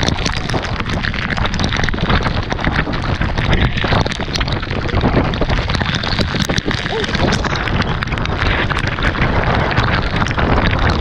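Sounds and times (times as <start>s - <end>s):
raindrops ticking on camera: 0.0s - 11.0s
wind buffeting microphone: 0.0s - 11.0s.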